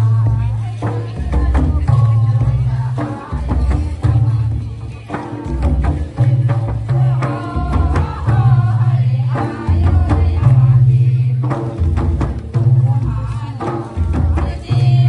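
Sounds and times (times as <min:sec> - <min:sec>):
barrel drums and frame drums: 0:00.0 - 0:15.0
voices singing a melody: 0:00.0 - 0:15.0.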